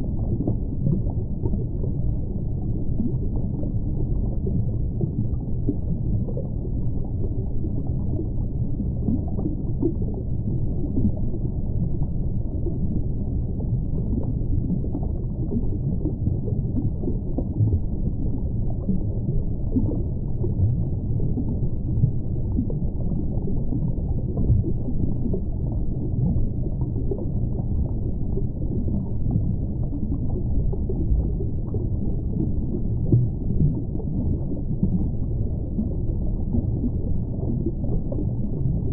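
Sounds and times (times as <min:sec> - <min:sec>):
muffled underwater ambience: 0:00.0 - 0:38.9.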